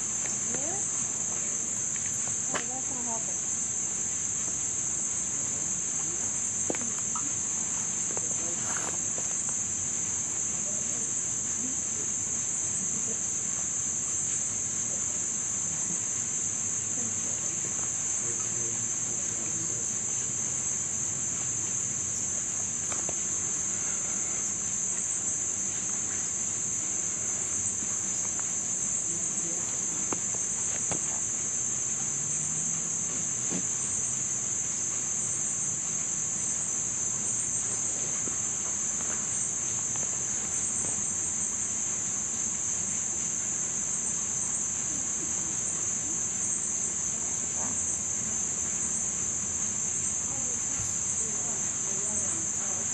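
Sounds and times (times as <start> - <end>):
insects chirping: 0.0 - 52.9.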